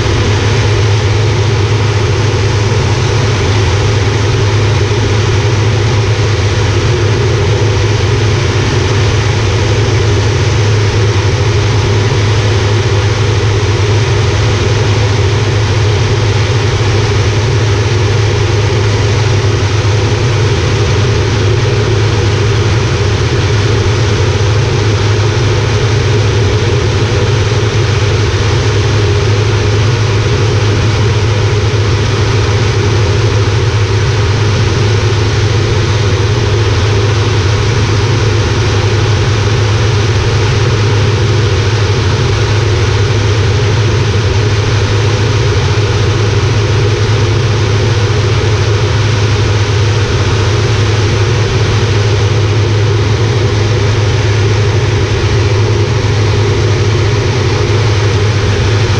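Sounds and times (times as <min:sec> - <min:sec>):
turboprop engine droning in flight: 0:00.0 - 0:58.9.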